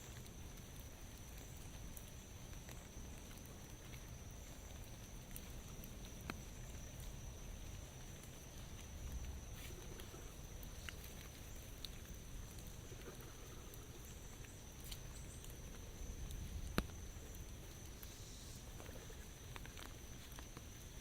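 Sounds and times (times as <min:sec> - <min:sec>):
light rain patter: 0:00.0 - 0:21.0.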